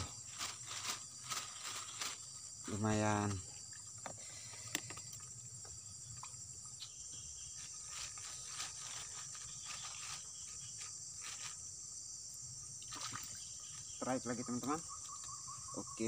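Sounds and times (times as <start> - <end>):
high insect chorus: 0.0 - 16.0.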